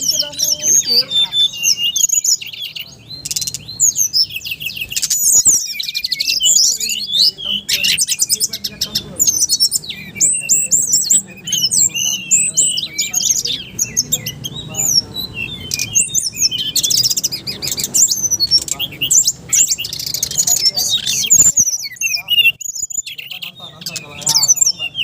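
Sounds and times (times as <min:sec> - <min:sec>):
fast bird trills: 0:00.0 - 0:25.0
songbirds singing: 0:00.0 - 0:25.0.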